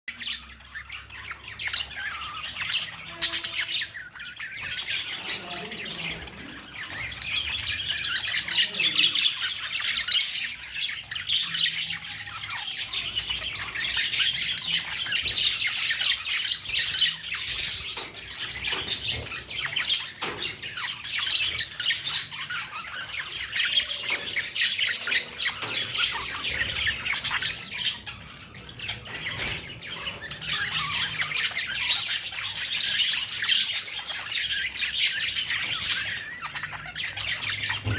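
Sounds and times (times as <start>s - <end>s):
budgerigars chirping: 0.1s - 37.9s.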